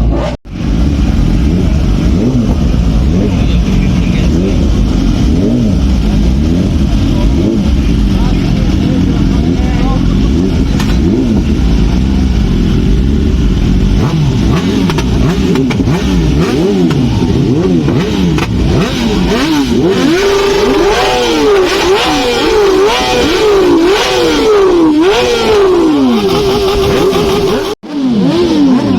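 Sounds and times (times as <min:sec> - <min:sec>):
motorcycle engines revving: 0:00.0 - 0:28.9.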